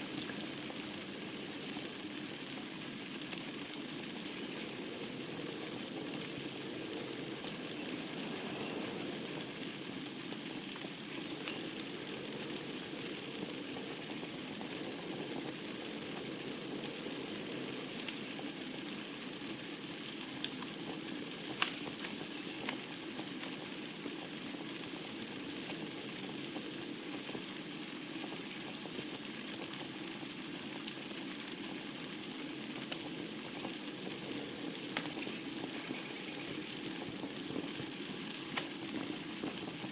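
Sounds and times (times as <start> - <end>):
wood fire crackling in fireplace: 0.0 - 39.9.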